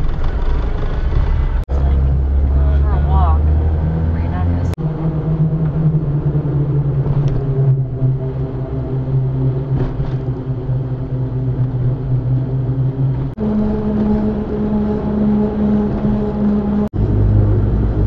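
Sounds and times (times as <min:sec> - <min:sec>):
tyre and road noise: 0:00.0 - 0:18.0
van engine running: 0:00.0 - 0:18.0.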